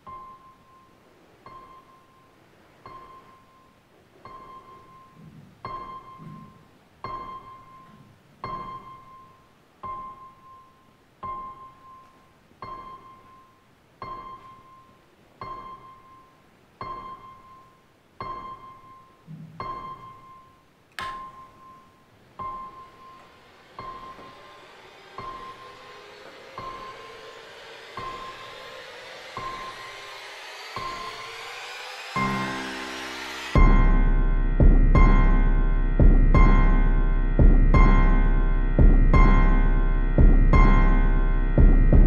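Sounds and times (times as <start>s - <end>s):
high piano note repeating: 0.0s - 42.0s.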